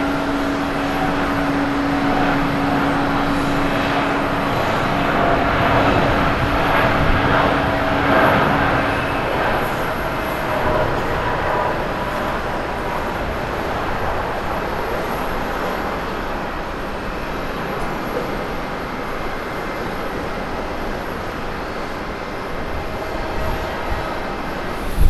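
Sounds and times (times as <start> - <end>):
jet engines roaring at takeoff: 0.0 - 25.0.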